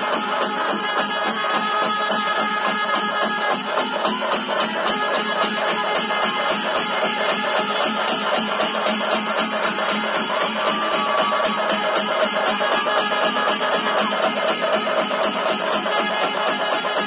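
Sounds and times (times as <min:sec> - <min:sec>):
hand cymbals clashing: 0:00.0 - 0:17.0
held wind instrument notes: 0:00.0 - 0:17.0
percussion drums: 0:00.0 - 0:17.0.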